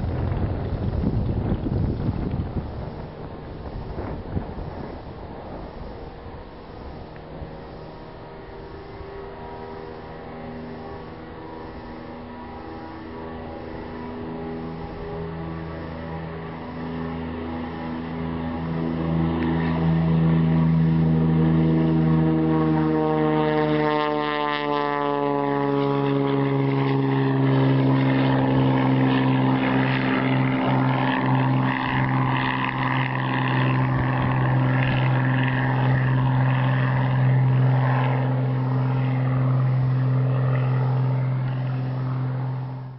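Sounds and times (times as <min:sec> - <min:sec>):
airplane engine and propeller drone: 0:00.0 - 0:42.9.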